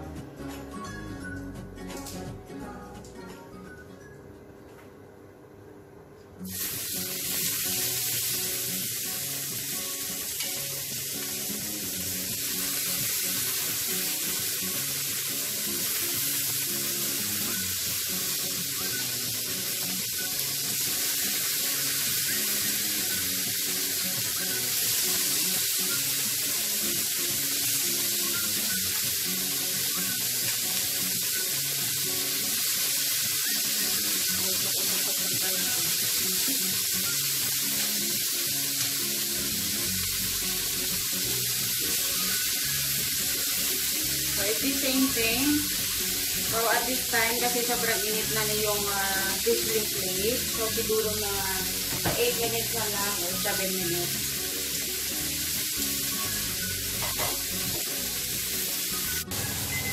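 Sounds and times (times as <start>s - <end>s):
shrimp sizzling in oil: 6.4s - 59.9s.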